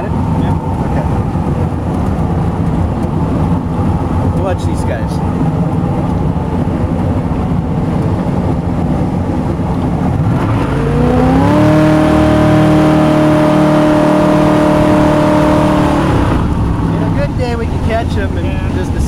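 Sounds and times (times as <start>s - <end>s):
boat engine rumbling and revving: 0.0s - 19.0s.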